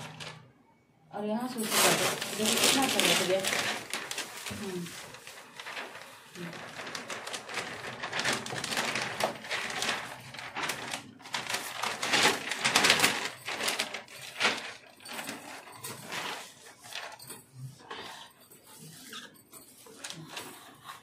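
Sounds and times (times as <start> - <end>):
vinyl sheet crackling and rustling: 0.0 - 0.5, 1.2 - 21.0.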